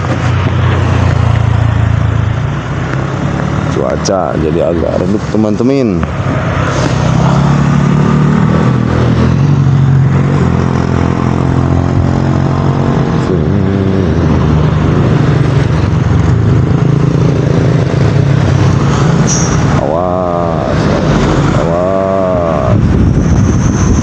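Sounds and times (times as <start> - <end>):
motorcycle and car engines passing: 0.0 - 24.0.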